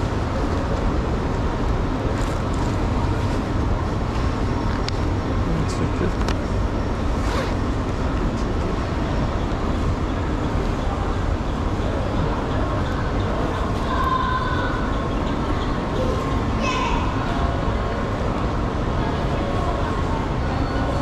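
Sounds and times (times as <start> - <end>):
distant voices: 0.0 - 21.0.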